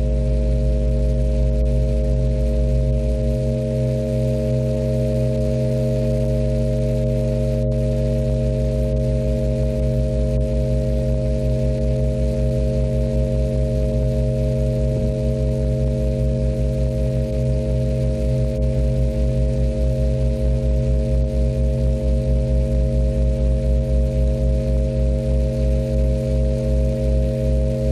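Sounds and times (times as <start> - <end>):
drone music with held tones: 0.0 - 27.9
low throbbing pulse: 0.0 - 27.9.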